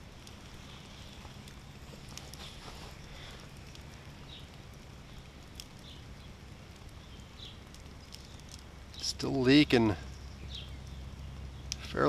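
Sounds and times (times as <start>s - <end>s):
campfire crackles: 0.0s - 12.0s
low hiss from coals: 0.0s - 12.0s.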